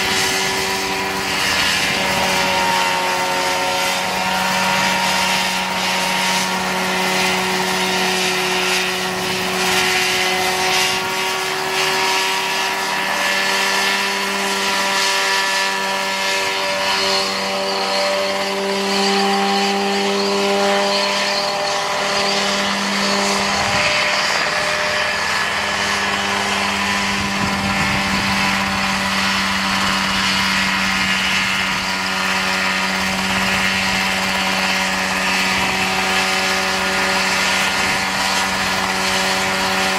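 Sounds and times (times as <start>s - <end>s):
helicopter engine buzzing: 0.0s - 39.9s.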